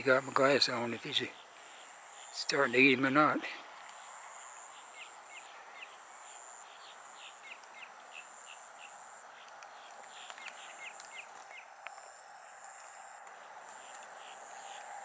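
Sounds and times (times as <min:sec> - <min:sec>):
insects trilling: 0:00.0 - 0:15.0
steady outdoor hum: 0:00.0 - 0:15.0.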